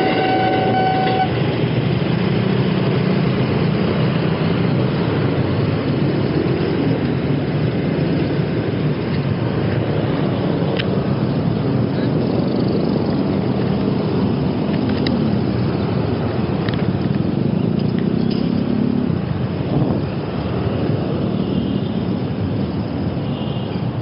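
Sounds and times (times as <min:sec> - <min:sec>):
motor vehicle engines running: 0:00.0 - 0:24.0
steady traffic rush: 0:00.0 - 0:24.0.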